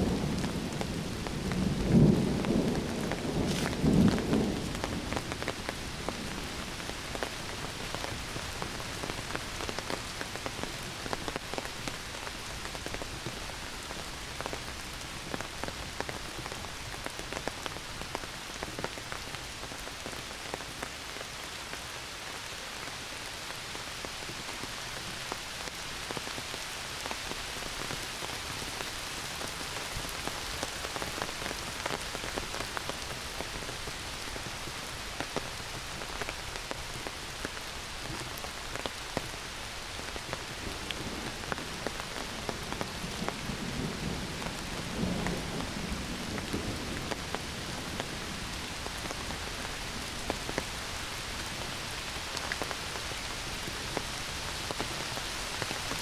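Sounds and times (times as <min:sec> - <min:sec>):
heavy rain pouring: 0:00.0 - 0:56.0
raindrops ticking close by: 0:00.0 - 0:56.0.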